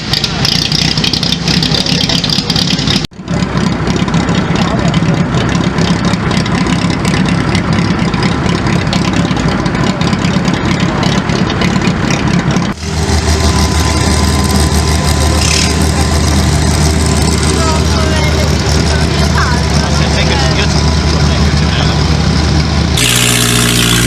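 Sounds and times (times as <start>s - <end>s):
car engine idling unevenly: 0.0s - 23.4s
deep steady car engine idling: 0.0s - 23.4s.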